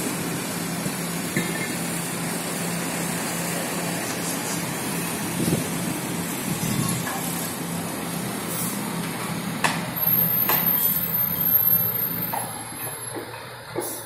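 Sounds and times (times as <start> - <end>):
construction machinery engine hum: 0.0 - 14.0.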